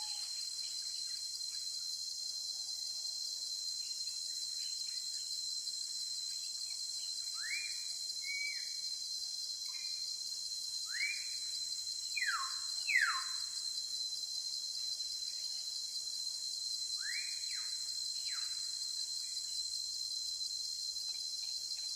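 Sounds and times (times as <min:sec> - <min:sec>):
high-pitched insect drone: 0:00.0 - 0:21.9.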